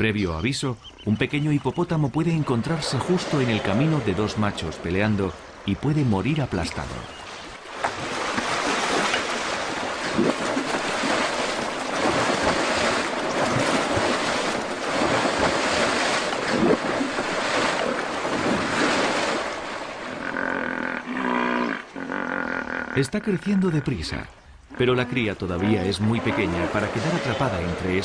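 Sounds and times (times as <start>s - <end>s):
hippos splashing in water: 1.3s - 23.0s, 23.6s - 28.0s.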